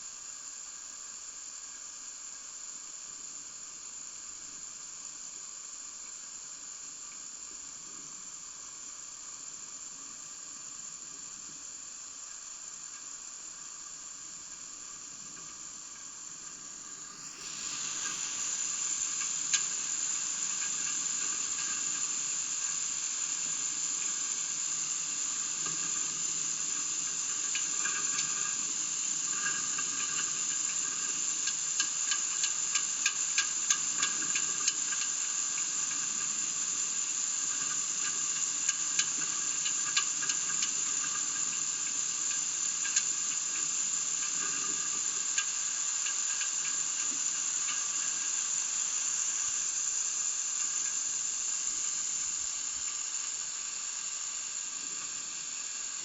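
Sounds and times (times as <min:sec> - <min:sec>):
high-pitched hiss: 0:00.0 - 0:56.0.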